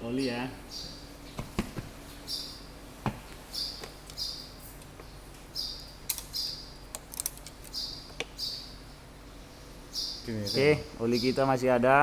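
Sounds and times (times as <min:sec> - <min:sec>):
small bird chirping: 0:00.0 - 0:01.6, 0:02.2 - 0:07.0, 0:07.6 - 0:11.5.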